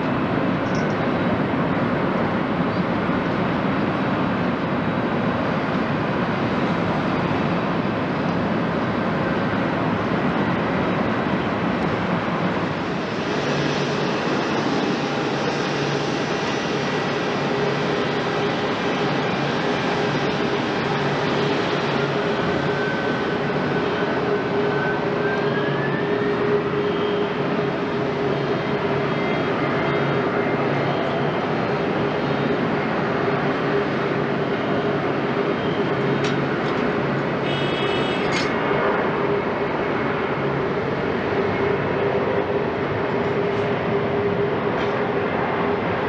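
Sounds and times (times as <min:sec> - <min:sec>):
airport background hum: 0:00.0 - 0:46.0
jet engine rumble: 0:00.0 - 0:46.0.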